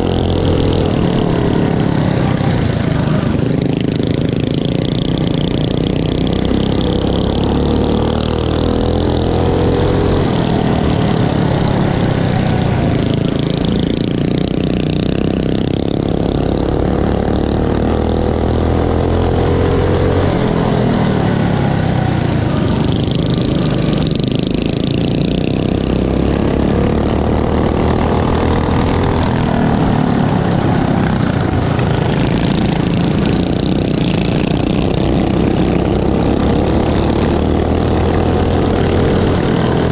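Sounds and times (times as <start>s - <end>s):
mini bike engines revving: 0.0s - 39.9s.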